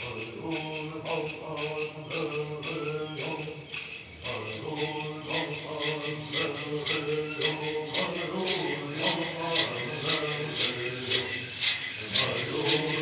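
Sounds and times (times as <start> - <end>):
gourd rattles shaken: 0.0 - 13.0
voices singing a chant: 0.0 - 13.0.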